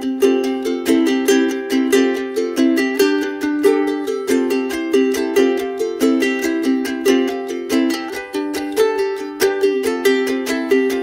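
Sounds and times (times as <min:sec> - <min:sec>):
upbeat plucked-string tune: 0:00.0 - 0:11.0.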